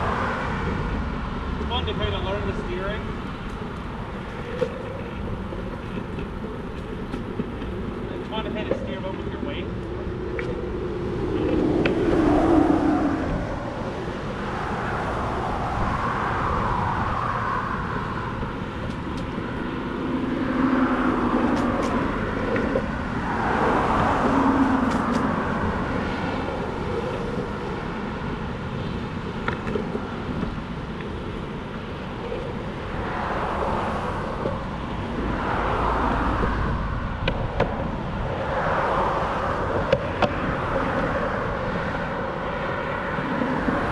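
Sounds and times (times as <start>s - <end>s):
cars passing: 0.0s - 43.9s
longboard wheels rolling on concrete: 0.0s - 43.9s.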